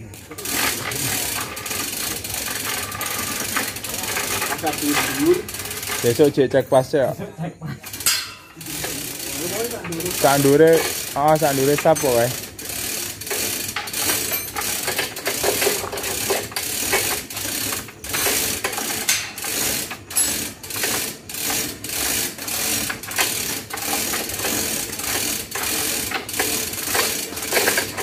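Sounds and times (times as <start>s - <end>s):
chain hoist ratcheting: 0.0s - 7.1s, 7.8s - 28.0s
chain rattling: 0.3s - 6.4s, 7.8s - 28.0s.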